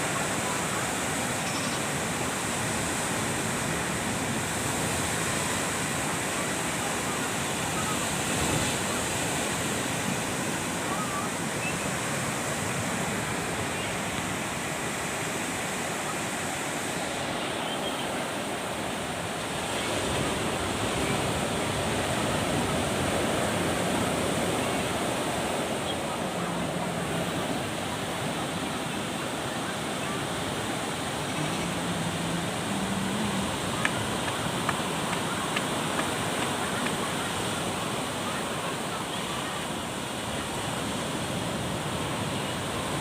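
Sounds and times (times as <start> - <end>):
waves washing onto a beach: 0.0 - 43.0.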